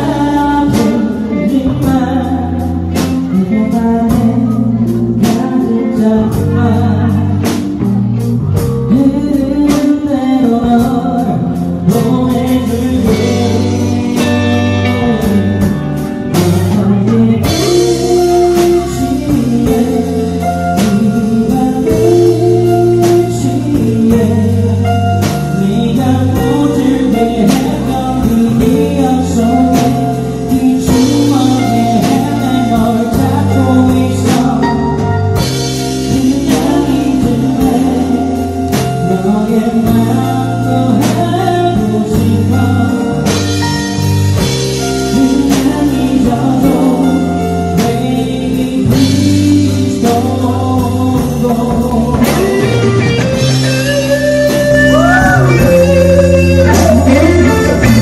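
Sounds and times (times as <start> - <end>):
electric guitar bending notes: 0.0 - 58.0
live rock band: 0.0 - 58.0
man singing: 0.0 - 58.0.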